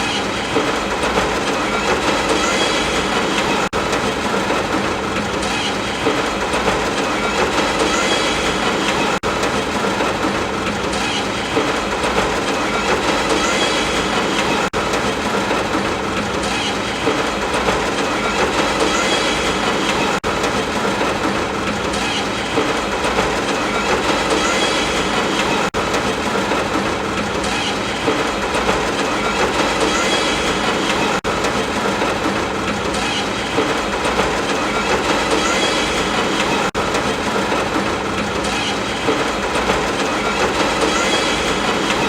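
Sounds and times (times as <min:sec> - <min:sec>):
train rumble and clatter: 0:00.0 - 0:42.0.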